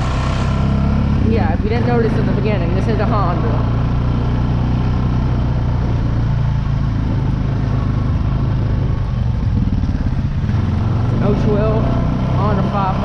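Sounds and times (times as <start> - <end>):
atv engine running steadily: 0.0 - 13.0.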